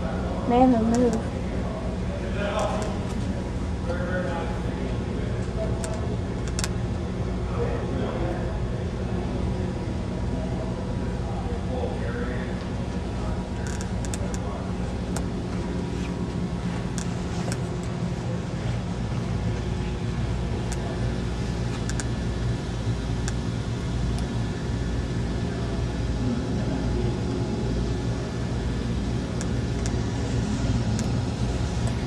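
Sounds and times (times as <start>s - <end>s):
constant hum: 0.0s - 32.0s.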